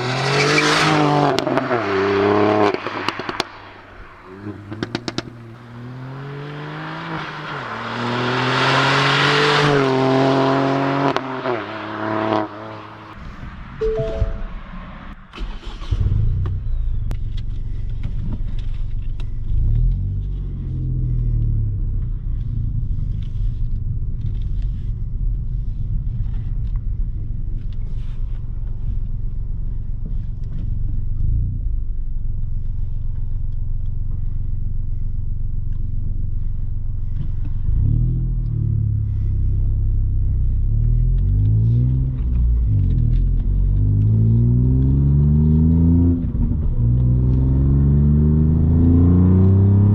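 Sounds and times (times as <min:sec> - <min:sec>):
car engine and exhaust drone: 0:00.0 - 0:49.9.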